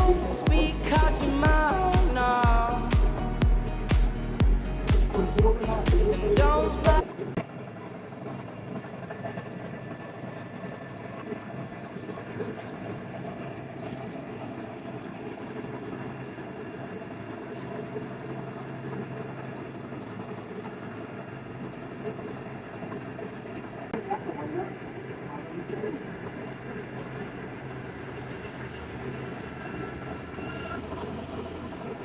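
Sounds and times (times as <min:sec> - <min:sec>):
machine running hum: 0:00.0 - 0:32.0.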